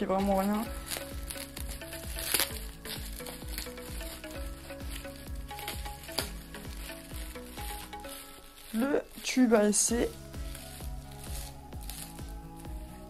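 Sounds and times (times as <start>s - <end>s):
background music with beat: 0.0s - 13.0s
plastic tape crackling peeled off: 0.0s - 13.0s.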